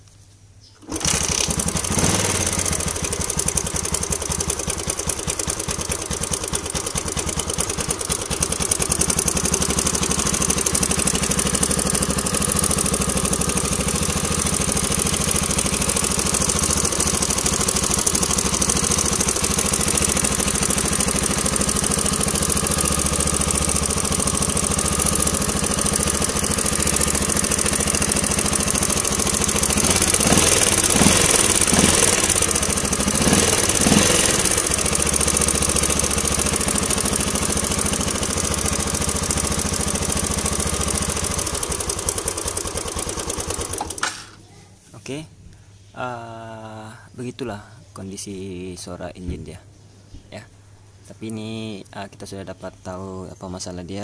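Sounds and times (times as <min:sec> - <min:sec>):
motorcycle engine idling: 0:00.8 - 0:44.4.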